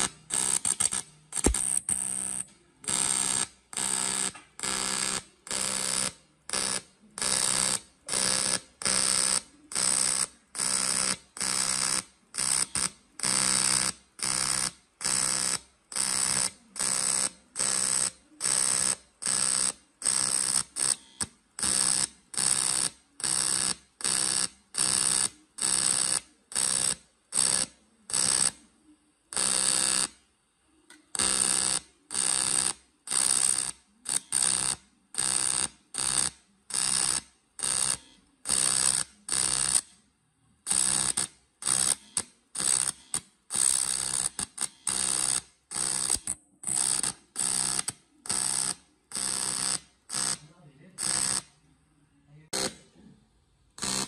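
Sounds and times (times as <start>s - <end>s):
buzzing welding arc: 0.0s - 28.6s, 29.4s - 30.2s, 31.1s - 39.9s, 40.7s - 51.5s, 52.5s - 52.8s, 53.8s - 54.0s.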